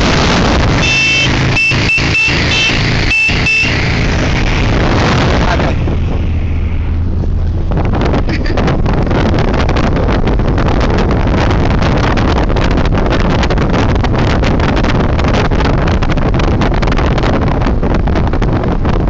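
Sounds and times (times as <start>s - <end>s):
road and engine rumble: 0.0s - 19.0s
wind buffeting on microphone: 0.0s - 19.0s.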